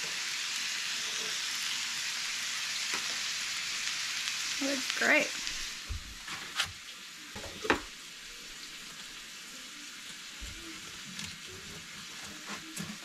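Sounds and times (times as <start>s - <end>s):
vegetable sizzling in a pan: 0.0s - 13.0s.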